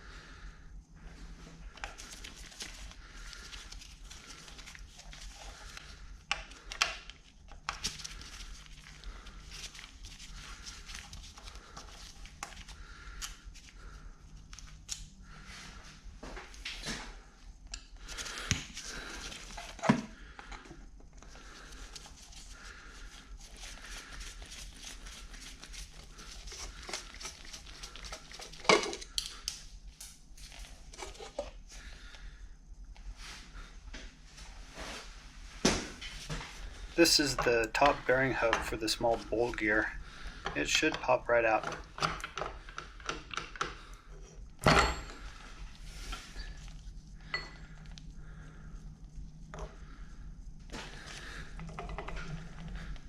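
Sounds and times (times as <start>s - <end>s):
steady low hum: 0.0s - 43.1s, 43.7s - 53.0s.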